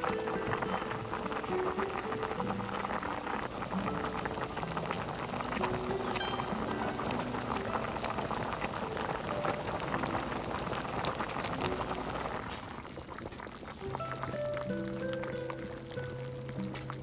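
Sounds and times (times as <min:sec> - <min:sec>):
stew bubbling and popping: 0:00.0 - 0:17.0.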